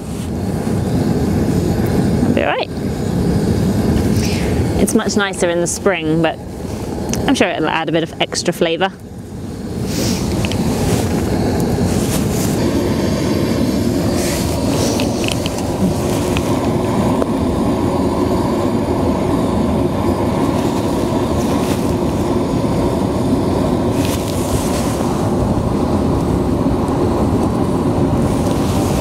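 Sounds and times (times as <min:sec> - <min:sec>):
hissing wind gusts: 0:00.0 - 0:29.0
wind: 0:00.0 - 0:29.0.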